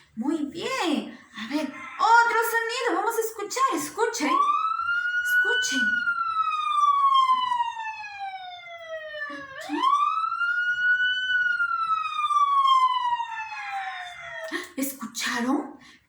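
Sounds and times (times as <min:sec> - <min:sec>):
ambulance siren wailing: 0:00.4 - 0:15.3.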